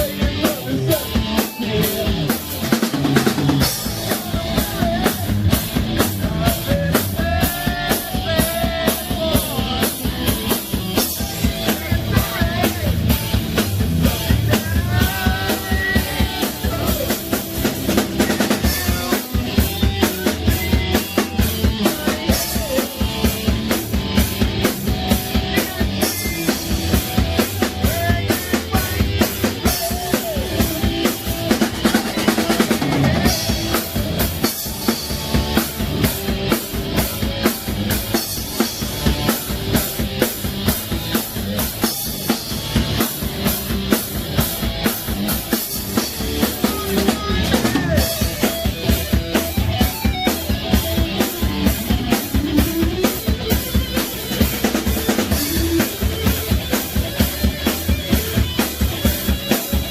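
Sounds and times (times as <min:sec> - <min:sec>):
drum kit beat: 0:00.0 - 0:59.9
rock band playing live: 0:00.0 - 0:59.9.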